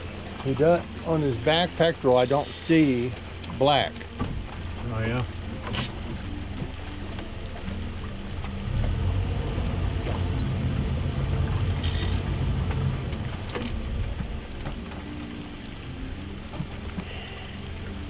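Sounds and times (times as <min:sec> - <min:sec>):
broad rumble: 0:00.0 - 0:18.0
outboard motor idling: 0:00.0 - 0:18.0.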